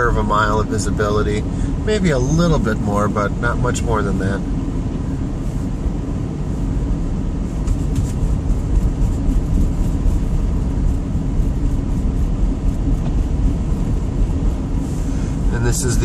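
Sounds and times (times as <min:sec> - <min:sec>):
truck engine and tyres rumbling: 0:00.0 - 0:16.0.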